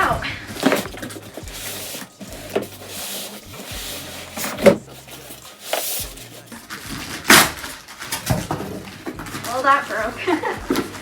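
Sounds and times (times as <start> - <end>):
cardboard and foam rustling: 0.0 - 11.0.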